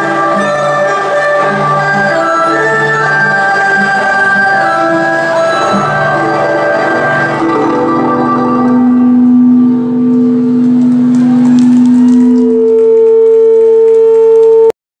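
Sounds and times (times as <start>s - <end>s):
instrumental ensemble music: 0.0s - 12.4s.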